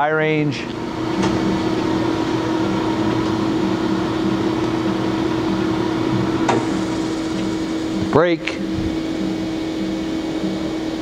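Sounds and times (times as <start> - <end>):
lathe running with hum: 0.0 - 11.0.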